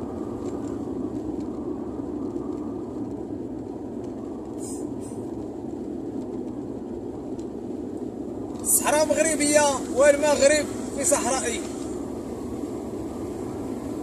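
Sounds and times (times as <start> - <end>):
car driving on road: 0.0 - 14.0.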